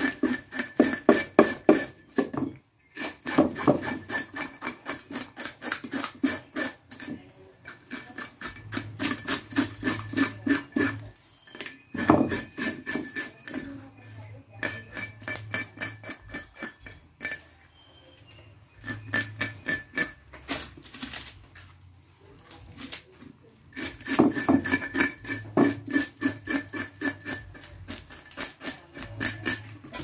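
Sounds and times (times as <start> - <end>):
knife scraping fish scales: 0.0 - 18.1, 18.7 - 21.5, 22.4 - 30.0.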